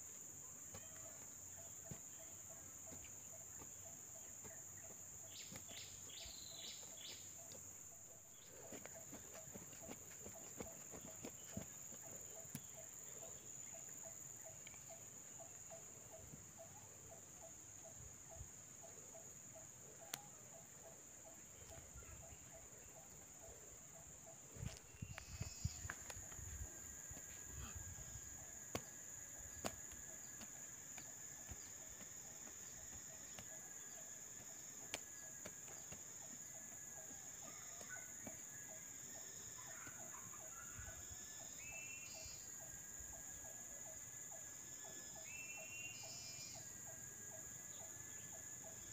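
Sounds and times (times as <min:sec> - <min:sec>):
insects droning high-pitched: 0:00.0 - 0:48.9.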